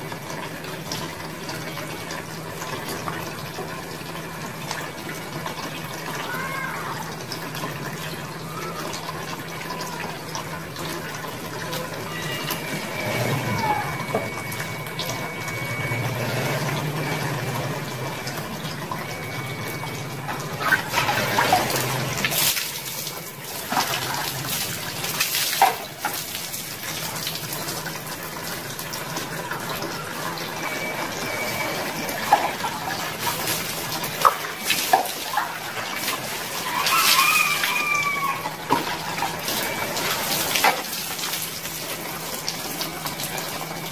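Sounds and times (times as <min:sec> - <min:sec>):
water pouring and splashing: 0:00.0 - 0:43.9.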